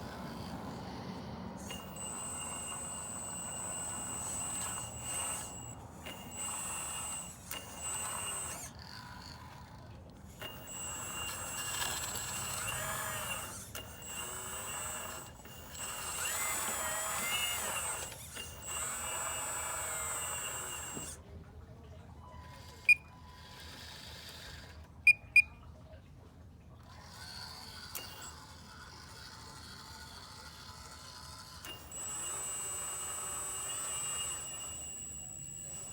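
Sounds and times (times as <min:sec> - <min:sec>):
hydraulic pump whining: 0:00.0 - 0:21.2, 0:26.9 - 0:35.9.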